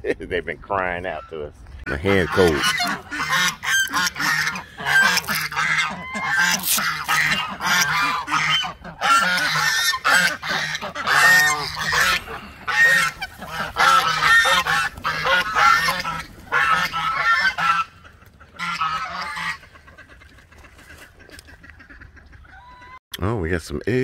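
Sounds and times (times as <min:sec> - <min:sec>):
geese honking: 0:01.0 - 0:23.0.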